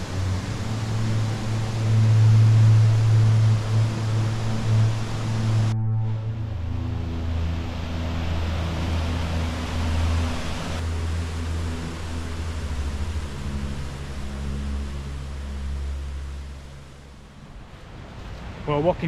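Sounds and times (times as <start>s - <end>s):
waterfall roaring: 0.0s - 5.7s, 6.4s - 19.0s
low sustained tones: 0.0s - 18.0s.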